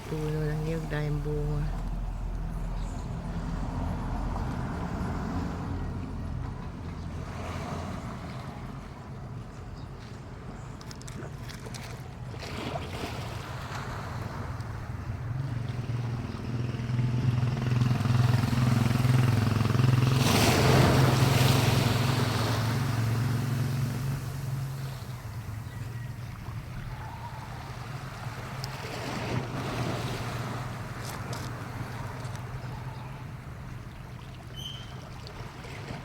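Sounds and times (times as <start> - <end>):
vehicle engine passing by: 0.0 - 8.9, 12.5 - 33.8.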